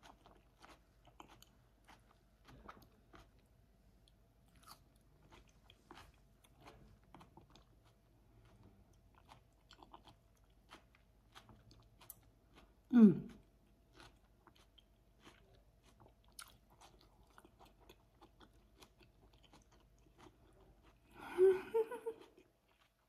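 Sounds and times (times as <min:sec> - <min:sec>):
chewing salad: 0:00.0 - 0:23.0.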